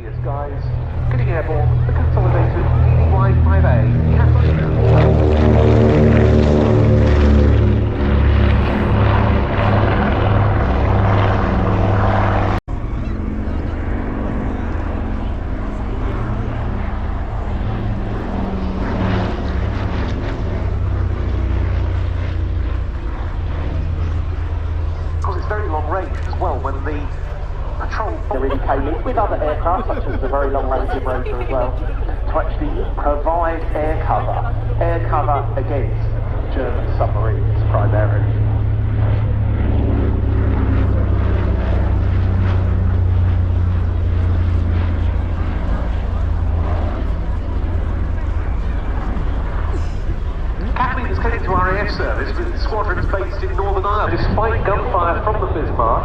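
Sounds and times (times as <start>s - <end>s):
propeller aircraft engines droning: 0.0s - 56.0s.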